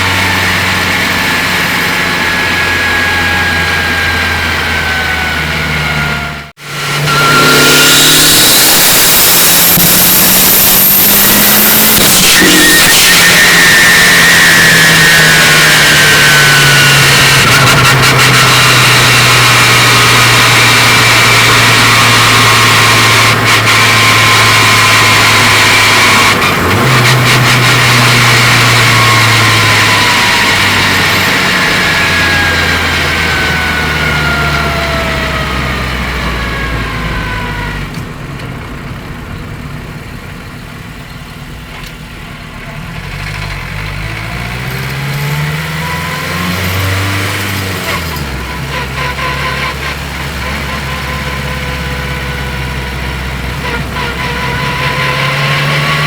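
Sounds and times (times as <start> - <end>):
car engine running: 0.0 - 56.0
gear whine: 0.0 - 56.0.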